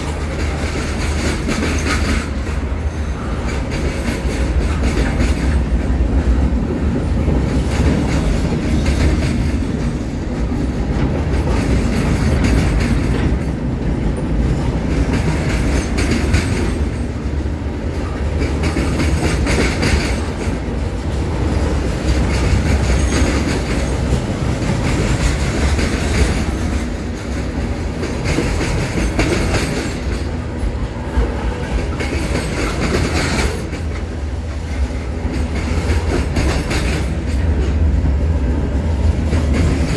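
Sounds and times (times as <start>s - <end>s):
steel wheels rumbling on rail: 0.0s - 39.9s
wheels clacking over rail joints: 0.0s - 39.9s.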